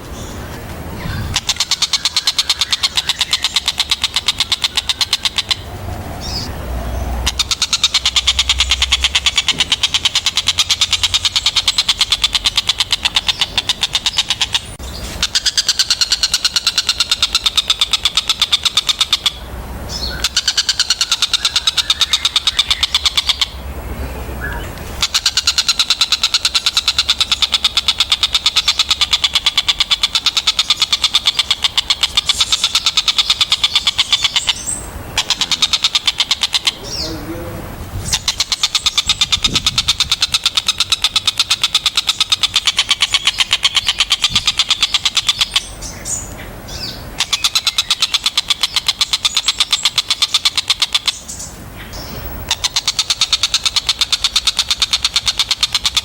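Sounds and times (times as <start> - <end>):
bird chattering trill: 1.0 - 6.5, 7.2 - 23.6, 24.4 - 56.0.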